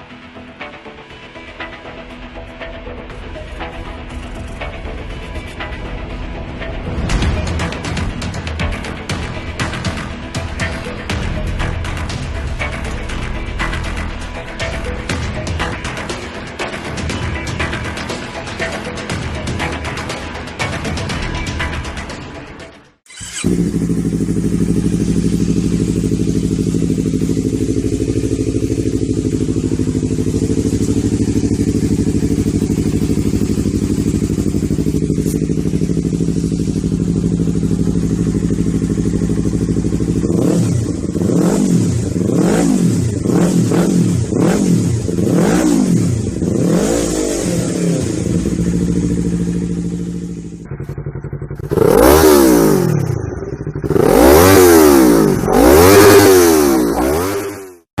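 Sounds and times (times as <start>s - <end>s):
motorcycle idling and revving: 0.0s - 58.0s.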